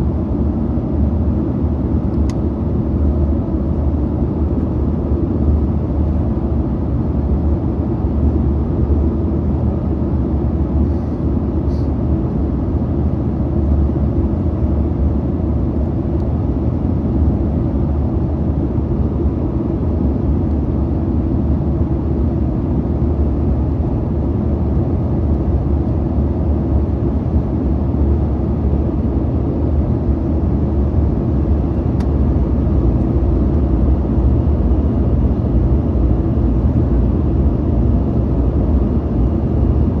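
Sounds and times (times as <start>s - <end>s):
aircraft cabin rumble: 0.0s - 40.0s.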